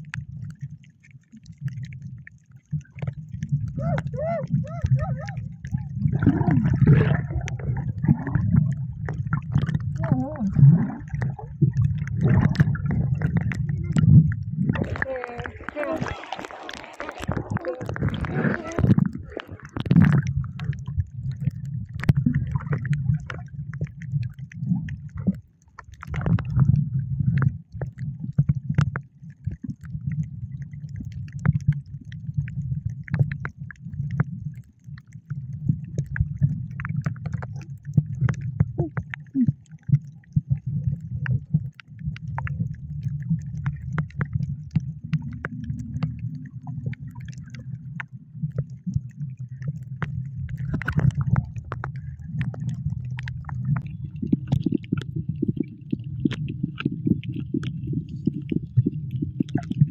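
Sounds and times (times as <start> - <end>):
faint underwater clicks: 0.0 - 59.9
low underwater rumble: 0.0 - 59.9.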